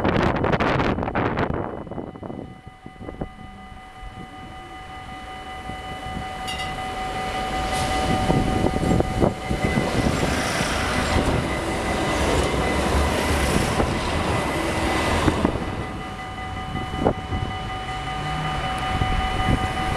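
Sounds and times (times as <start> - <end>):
tram wheels rumbling on rails: 0.0 - 19.9.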